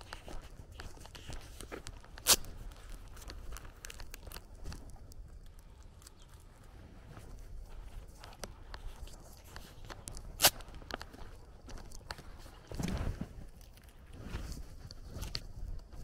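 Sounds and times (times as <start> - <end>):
footsteps on dirt path: 0.0 - 16.0.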